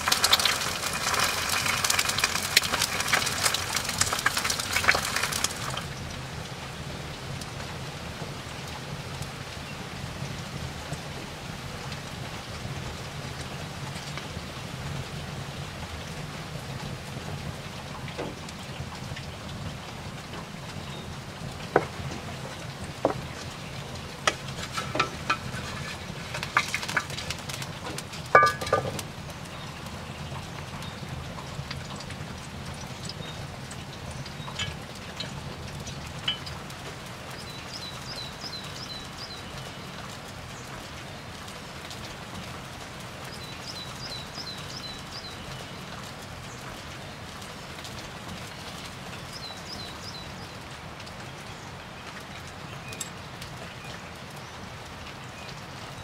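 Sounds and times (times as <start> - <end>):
wood fire crackling and hissing: 0.0 - 56.0.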